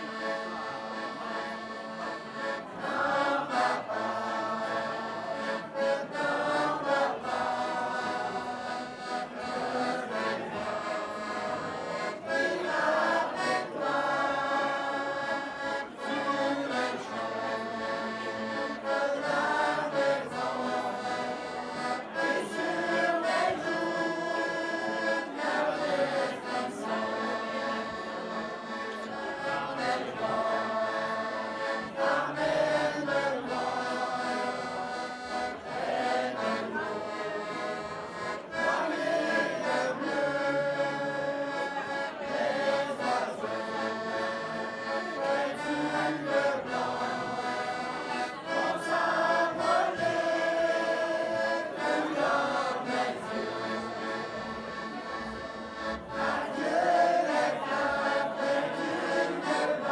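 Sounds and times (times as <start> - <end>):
accordion playing chords: 0.0 - 59.9
choir singing in unison: 2.4 - 28.3, 29.1 - 54.4, 55.8 - 59.9.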